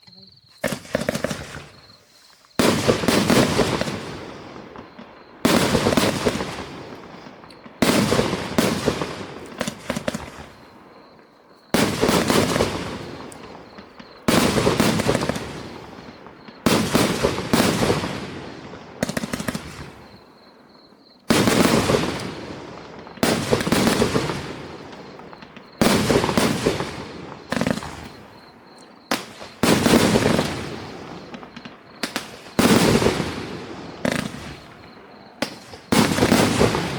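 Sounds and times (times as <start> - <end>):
fireworks bangs and crackle: 0.1 - 36.9.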